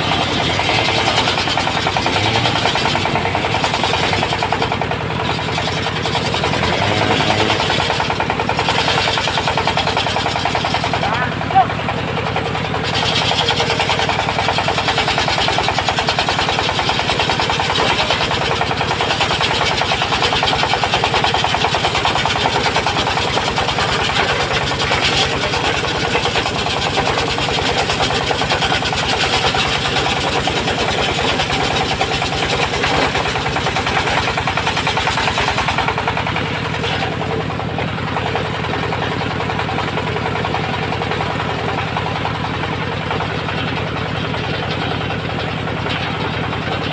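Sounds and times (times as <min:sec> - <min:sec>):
circular sawmill cutting wood: 0:00.0 - 0:46.9.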